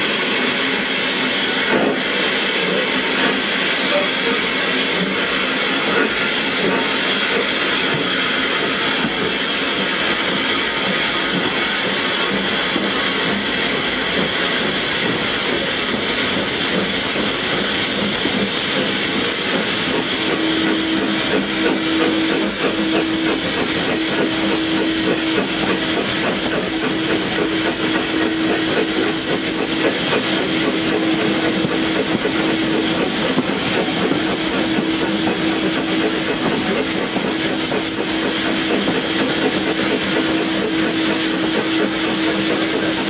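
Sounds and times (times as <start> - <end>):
steam hissing: 0.0 - 43.0.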